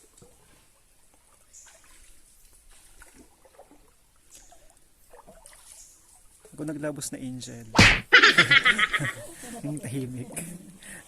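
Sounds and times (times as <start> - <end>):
faint trickling water: 0.0 - 7.7, 8.4 - 11.0.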